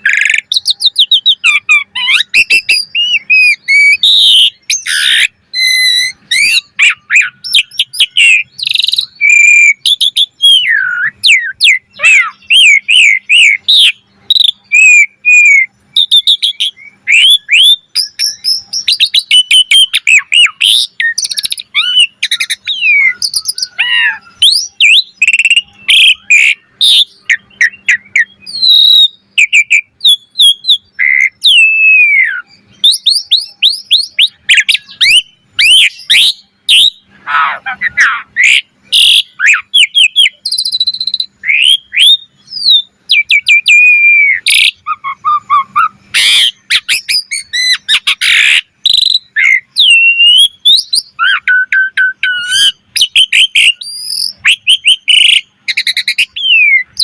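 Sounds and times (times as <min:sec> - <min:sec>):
starling singing whistled notes: 0:00.0 - 0:57.0.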